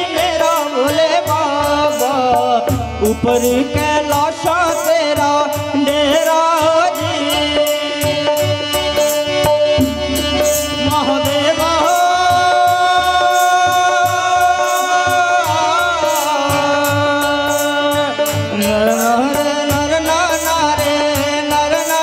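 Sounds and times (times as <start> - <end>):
harmonium: 0.0 - 22.0
man singing long notes: 0.0 - 22.0
tabla strokes: 0.0 - 22.0
ticking high percussion beat: 0.0 - 22.0.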